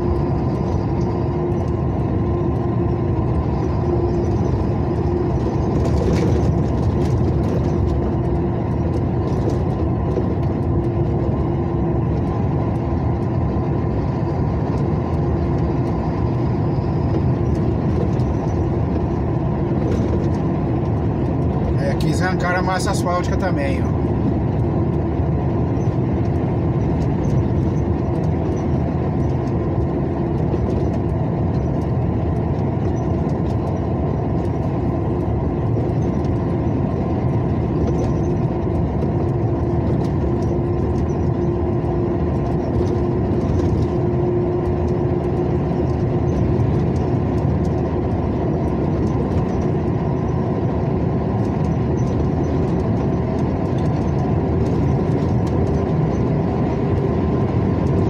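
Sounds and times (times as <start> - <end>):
vehicle engine and tyre noise: 0.0 - 58.0.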